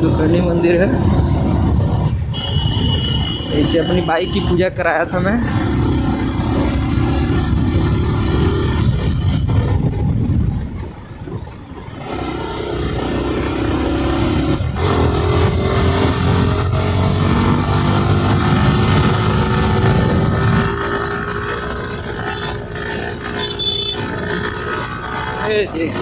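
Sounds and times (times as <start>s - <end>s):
motorcycle engine revving: 0.0s - 10.6s, 11.8s - 26.0s.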